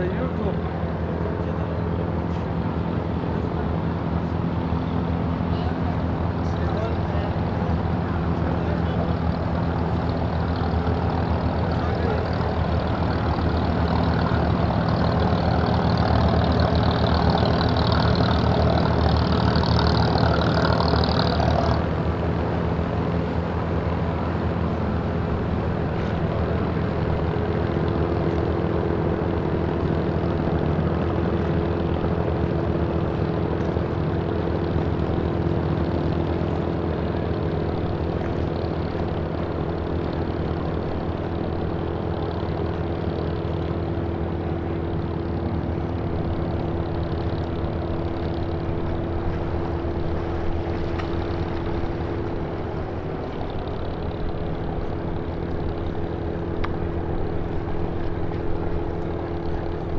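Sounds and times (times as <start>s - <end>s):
engine humming: 0.0s - 59.9s.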